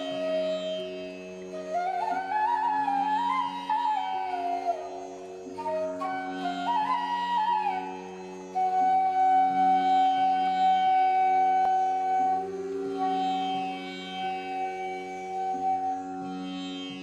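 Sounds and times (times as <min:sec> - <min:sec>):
gliding instrumental melody: 0:00.0 - 0:17.0.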